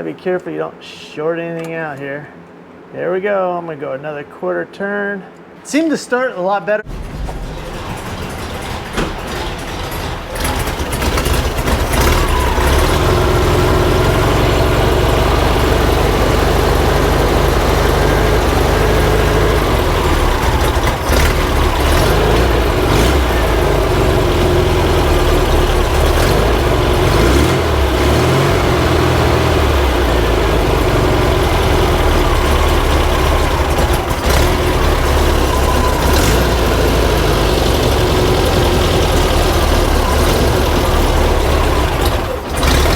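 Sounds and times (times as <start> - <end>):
air-cooled engine running: 6.9 - 42.9.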